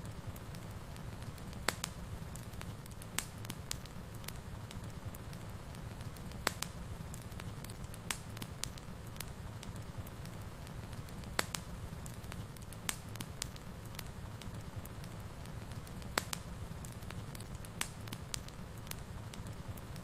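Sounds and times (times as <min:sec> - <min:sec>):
wood fire burning in a fireplace: 0:00.0 - 0:20.0.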